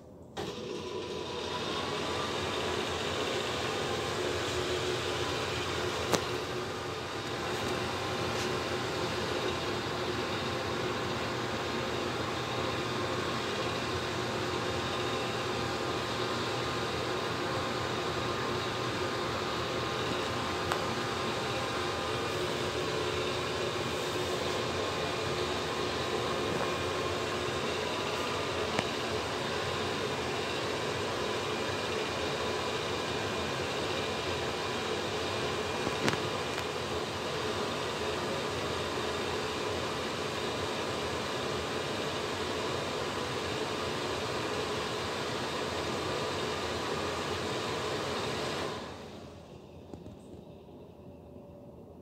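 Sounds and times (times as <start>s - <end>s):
ceiling exhaust fan running: 0.0s - 52.0s.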